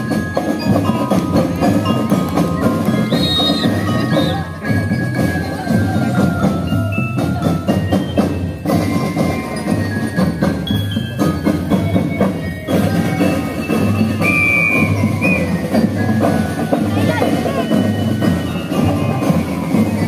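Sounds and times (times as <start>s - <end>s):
bell lyres playing a tune: 0.0s - 20.0s
marching drums beating: 0.0s - 20.0s.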